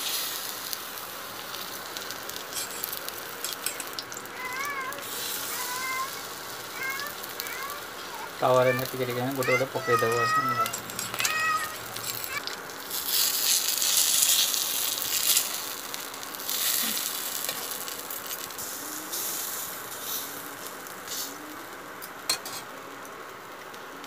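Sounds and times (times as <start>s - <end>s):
fritters sizzling in oil: 0.0s - 23.8s.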